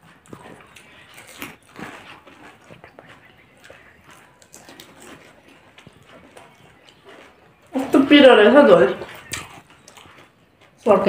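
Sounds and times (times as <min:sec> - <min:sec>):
crunching crisp snacks: 0:00.0 - 0:11.0.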